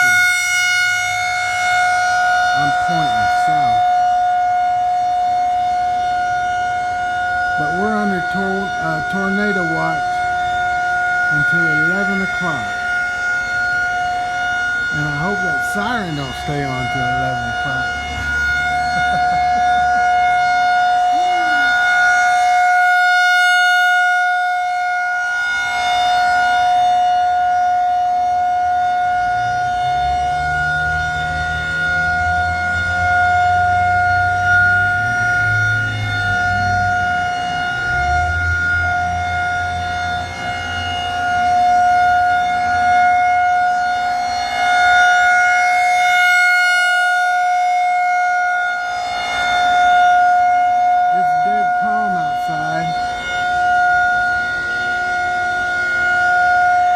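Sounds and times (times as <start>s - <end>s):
warning siren wailing: 0.0s - 56.9s.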